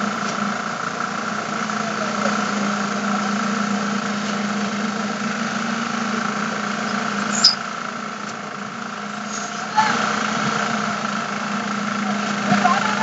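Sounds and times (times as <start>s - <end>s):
machinery engine humming: 0.0s - 13.0s.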